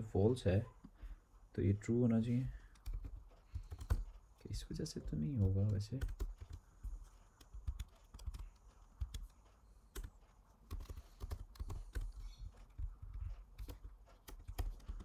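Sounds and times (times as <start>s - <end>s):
typing on keyboard: 2.5s - 15.0s.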